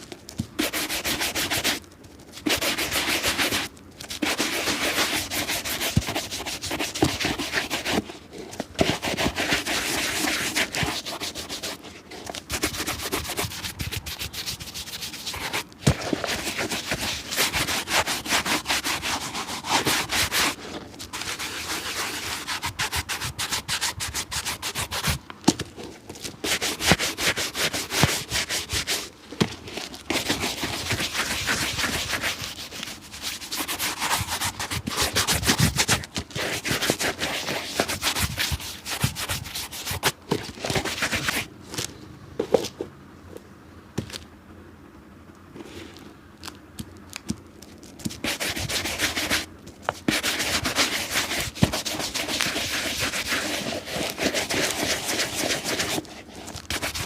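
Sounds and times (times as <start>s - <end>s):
tool scrubbing leather shoe: 0.4s - 1.8s, 2.4s - 8.1s, 8.8s - 25.2s, 26.3s - 41.5s, 48.0s - 57.0s.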